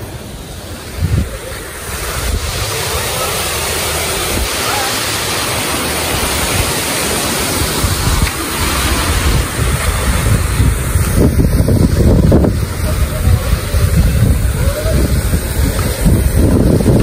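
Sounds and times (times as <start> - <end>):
water pouring into river: 0.0 - 17.0
wind buffeting microphone: 0.0 - 17.0.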